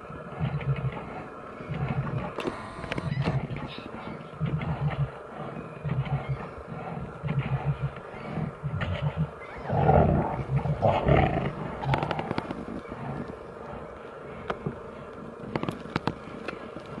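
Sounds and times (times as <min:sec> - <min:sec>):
bears growling: 0:00.2 - 0:02.4, 0:03.1 - 0:14.8.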